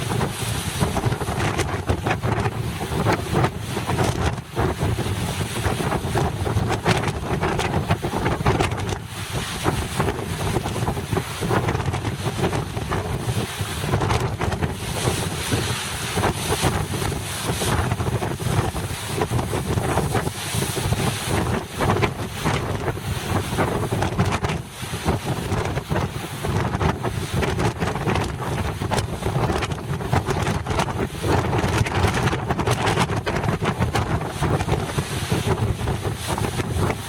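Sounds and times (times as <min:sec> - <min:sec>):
gusty wind buffeting microphone: 0:00.0 - 0:37.0
rush of waves: 0:00.0 - 0:37.0.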